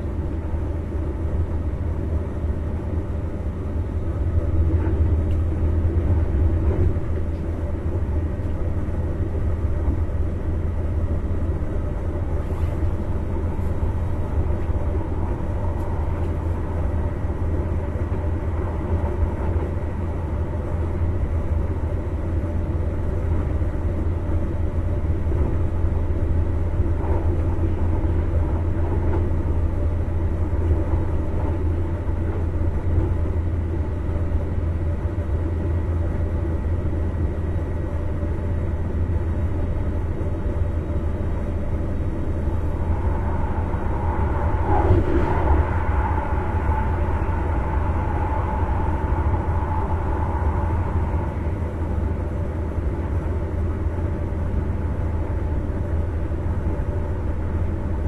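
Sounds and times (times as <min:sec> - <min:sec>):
electric train low hum: 0:00.0 - 0:58.0
wheels rumbling on rail: 0:00.0 - 0:58.0.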